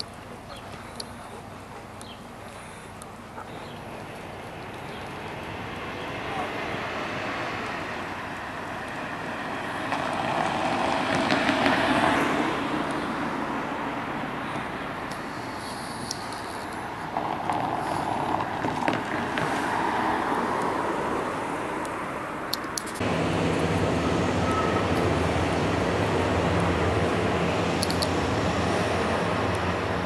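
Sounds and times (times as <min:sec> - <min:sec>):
passing road traffic: 0:00.0 - 0:30.0.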